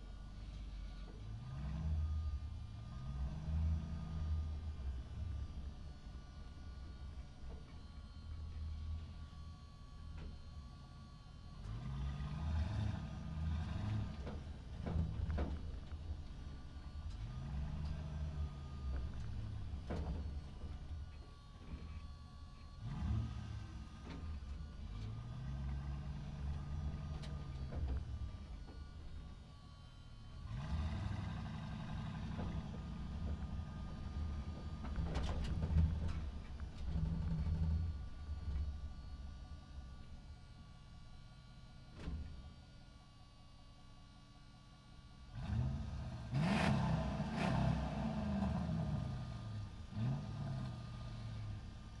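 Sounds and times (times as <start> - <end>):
truck engine running: 0.0 - 43.2.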